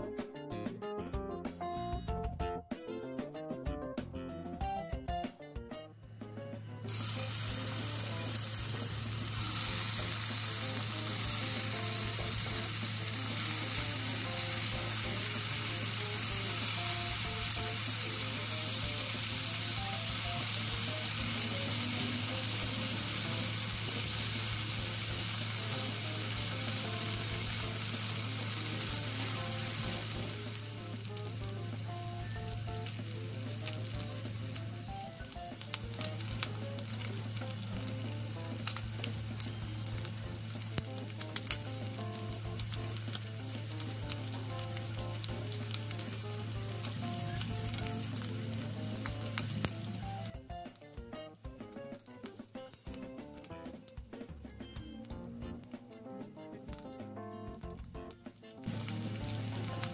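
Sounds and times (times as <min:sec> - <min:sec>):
bacon sizzling in a frying pan: 0:06.8 - 0:54.6, 0:56.6 - 0:59.9.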